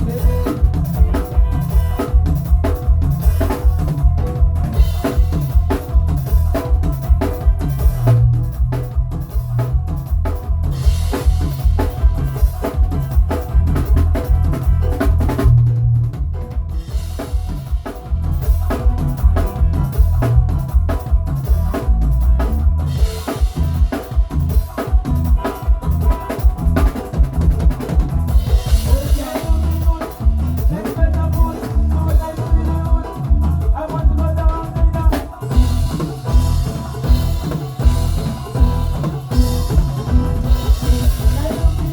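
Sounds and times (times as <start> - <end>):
held instrument tones: 0.0 - 30.7, 34.7 - 41.9
drum kit groove: 0.0 - 41.9.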